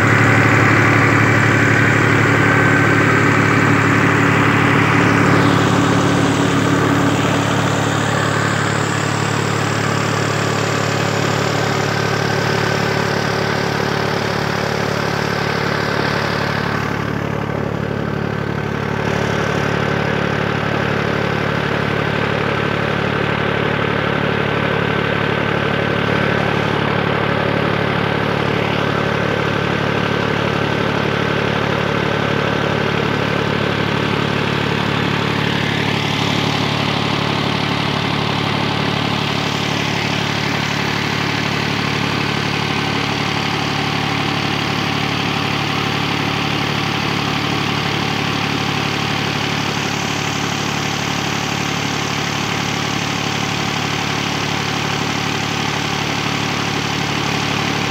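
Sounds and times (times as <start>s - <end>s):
diesel tractor engine running: 0.0s - 57.9s.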